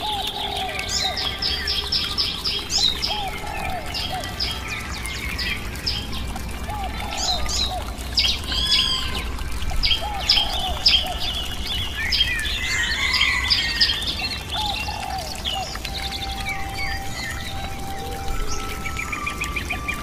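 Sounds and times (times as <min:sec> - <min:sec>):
birds chirping and trilling: 0:00.0 - 0:20.0.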